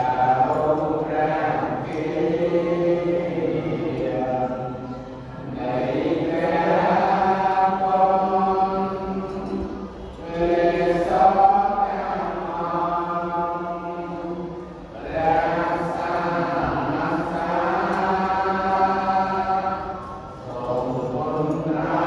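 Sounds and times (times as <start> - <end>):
chanting in long phrases: 0.0 - 22.0.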